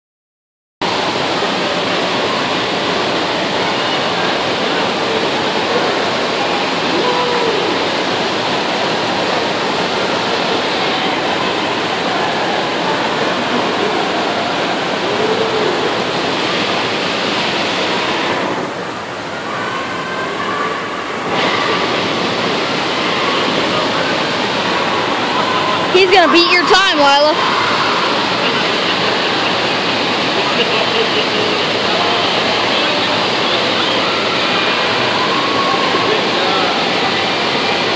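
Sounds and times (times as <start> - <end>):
rushing water: 0.8 - 37.9.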